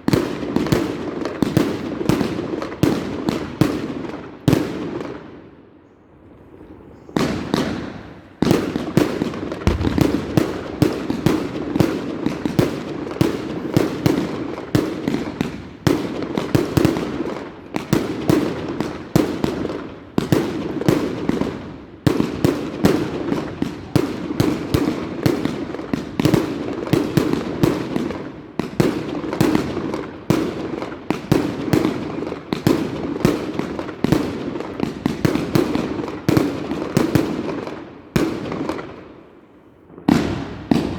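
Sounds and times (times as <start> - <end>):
fireworks bangs and crackles: 0.0 - 5.6, 6.3 - 40.9.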